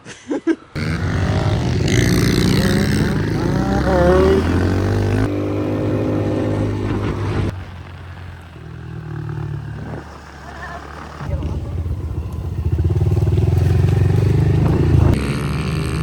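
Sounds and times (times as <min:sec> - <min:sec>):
dirt bike engine running: 0:00.8 - 0:16.0.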